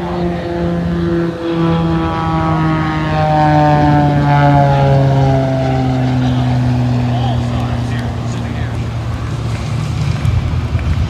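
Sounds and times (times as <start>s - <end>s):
propeller planes droning: 0.0s - 11.0s.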